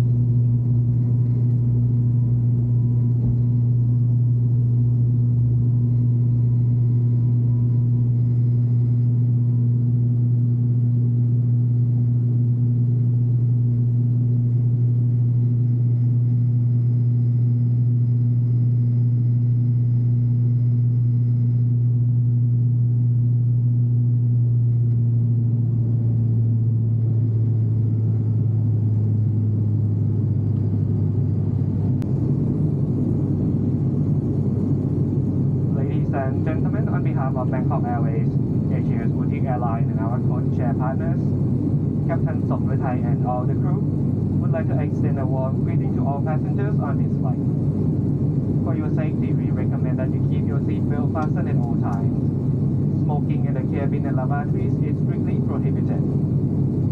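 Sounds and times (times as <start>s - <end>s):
propeller aircraft engine drone: 0.0s - 56.9s.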